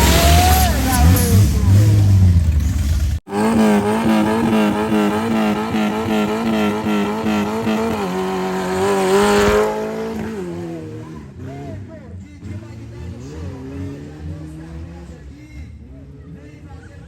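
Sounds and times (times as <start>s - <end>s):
race vehicle engine revving: 0.0s - 17.0s.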